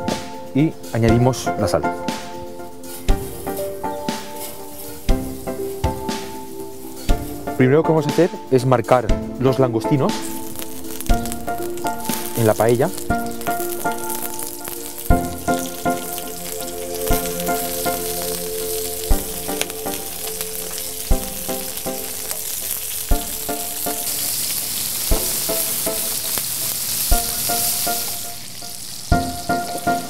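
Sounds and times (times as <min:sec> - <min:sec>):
prawns sizzling in oil: 0:02.1 - 0:08.6, 0:09.5 - 0:30.0.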